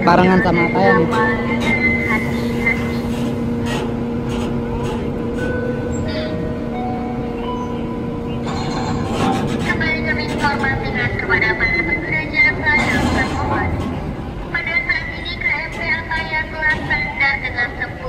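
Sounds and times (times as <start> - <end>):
low machinery drone: 0.0 - 18.0
voices: 0.0 - 18.0.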